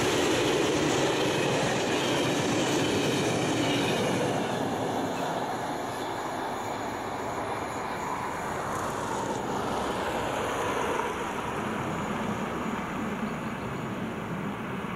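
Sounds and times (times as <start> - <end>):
freight train wagons rumbling: 0.0 - 14.9.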